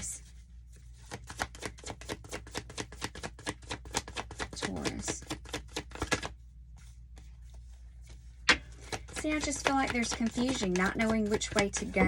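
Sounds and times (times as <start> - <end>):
cards being shuffled: 0.8 - 12.0.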